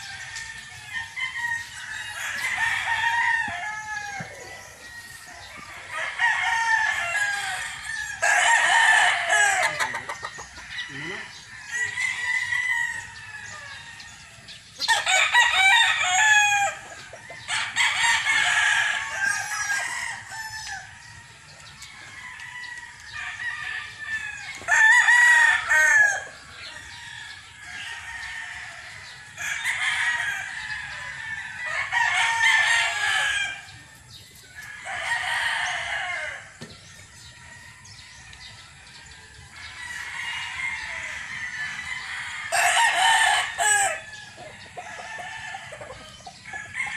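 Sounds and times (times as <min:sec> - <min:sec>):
roosters crowing: 0:00.0 - 0:46.9.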